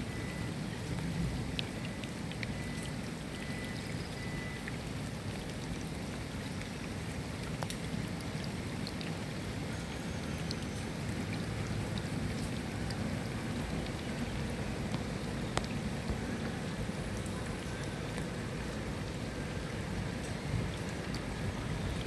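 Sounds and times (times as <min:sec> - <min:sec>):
sharp water drips: 0:00.0 - 0:22.0
steady rain falling: 0:00.0 - 0:22.0.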